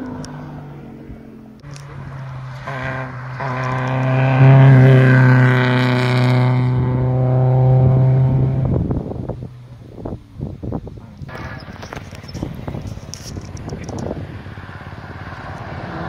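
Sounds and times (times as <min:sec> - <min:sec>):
rally car engine at high revs: 0:00.0 - 0:09.4, 0:11.0 - 0:16.0.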